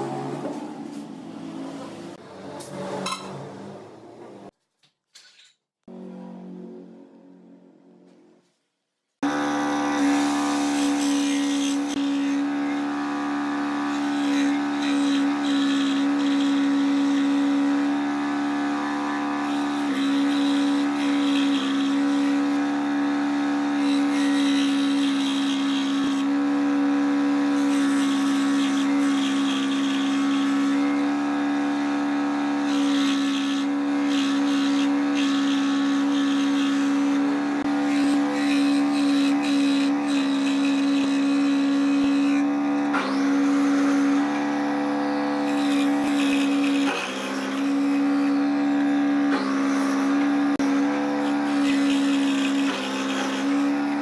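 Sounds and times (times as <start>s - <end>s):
scroll saw cutting wood: 9.2s - 54.0s.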